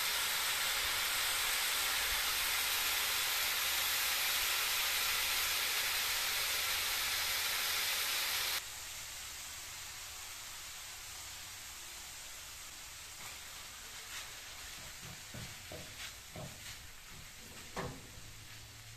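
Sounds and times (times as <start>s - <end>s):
meat and onions sizzling in a pan: 0.0s - 18.9s.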